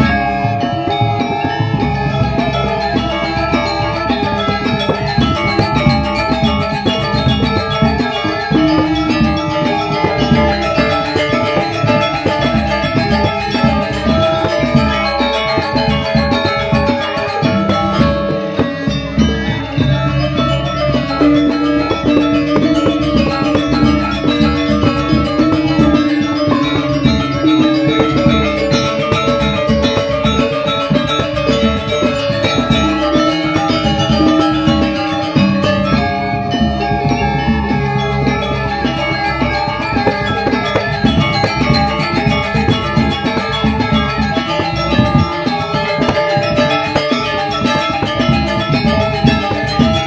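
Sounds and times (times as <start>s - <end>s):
metallophones ringing: 0.0s - 50.0s.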